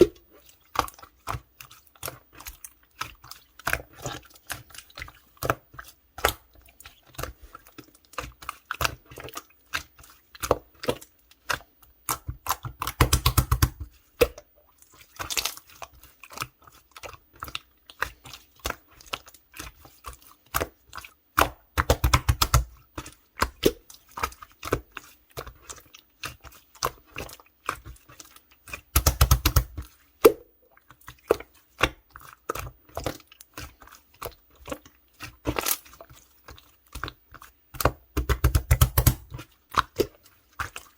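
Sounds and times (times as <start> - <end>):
slime being squished by hand: 0.0 - 14.4, 15.0 - 40.9.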